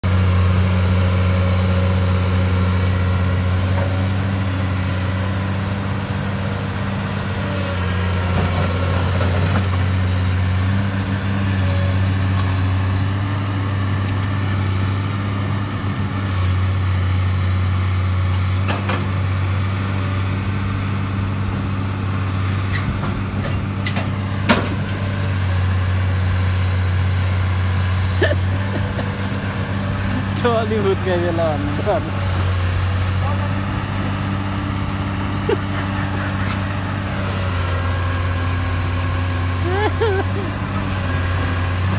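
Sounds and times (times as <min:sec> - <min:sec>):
diesel engines humming: 0:00.0 - 0:41.9.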